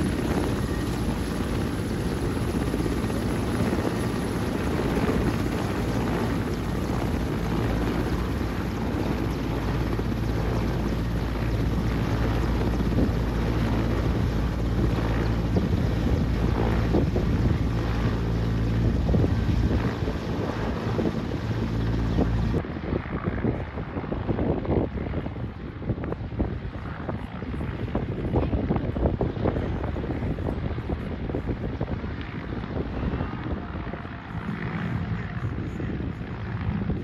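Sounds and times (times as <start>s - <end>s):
helicopter rotor and turbine: 0.0s - 37.0s
wind buffeting microphone: 0.0s - 37.0s.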